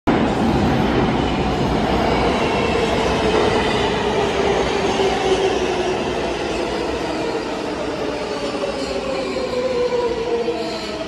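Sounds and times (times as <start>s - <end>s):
subway train wheels rumbling: 0.1s - 11.0s.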